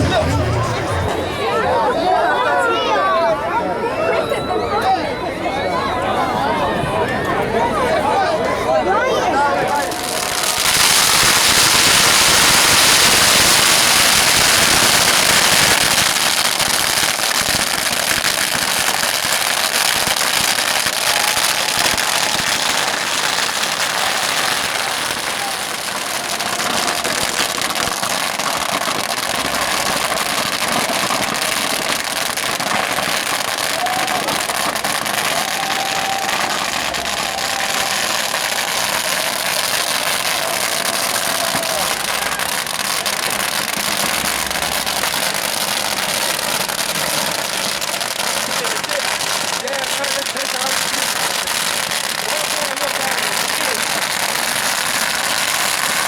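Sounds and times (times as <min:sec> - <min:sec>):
bonfire crackling: 0:09.4 - 0:56.0.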